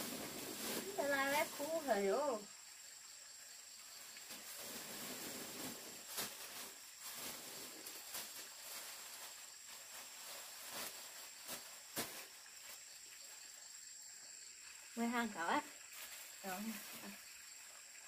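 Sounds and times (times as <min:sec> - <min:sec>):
faint high hiss: 0:00.0 - 0:18.0.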